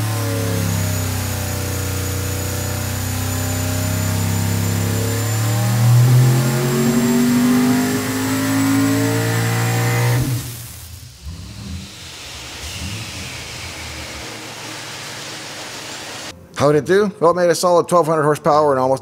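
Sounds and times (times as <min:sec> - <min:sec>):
engine revving under full load: 0:00.0 - 0:16.3
faint whine falling in pitch: 0:00.0 - 0:16.3.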